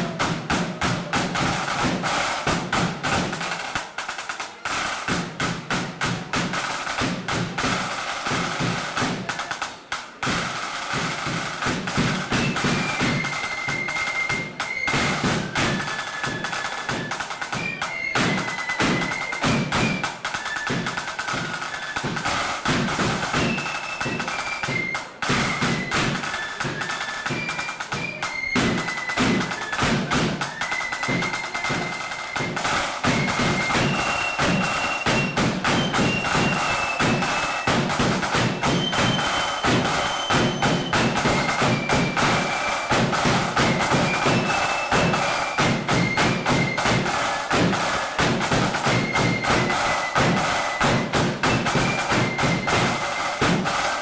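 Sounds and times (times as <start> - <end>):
flutes playing melody: 0.0 - 5.0, 10.3 - 54.0
fast snare drumming: 0.0 - 54.0.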